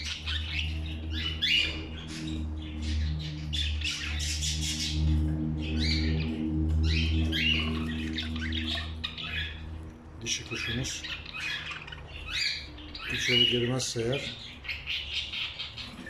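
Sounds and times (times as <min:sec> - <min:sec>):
budgerigars chirping and squawking: 0:00.0 - 0:16.0
steady low hum: 0:00.0 - 0:16.0.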